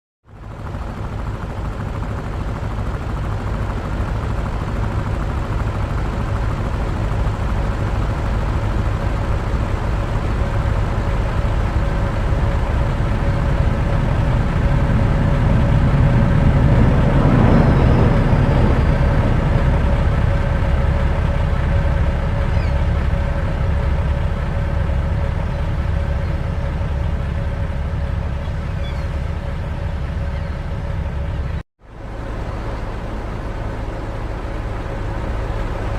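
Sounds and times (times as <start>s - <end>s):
steady hum: 0.4s - 35.9s.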